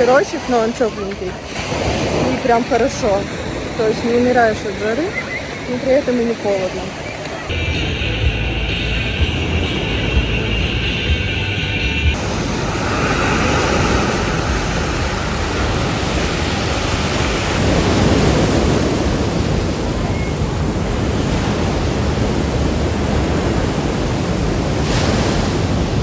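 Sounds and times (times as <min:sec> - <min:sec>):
sea surf washing on beach: 0:00.0 - 0:07.6, 0:12.1 - 0:26.0
wind buffeting microphone: 0:00.0 - 0:26.0.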